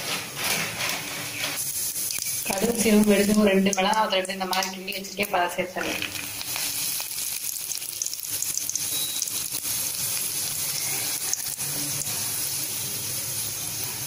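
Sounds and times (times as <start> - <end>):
spices sizzling in hot oil: 1.2 - 14.0.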